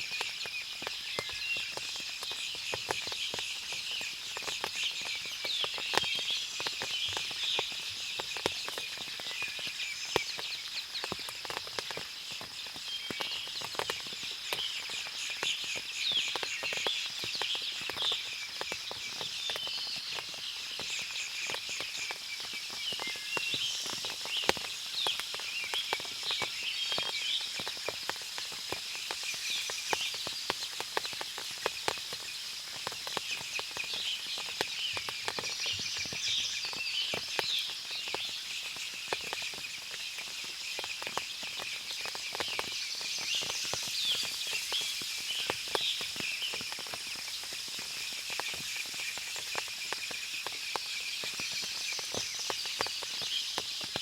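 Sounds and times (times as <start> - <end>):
water dripping: 0.0 - 54.0.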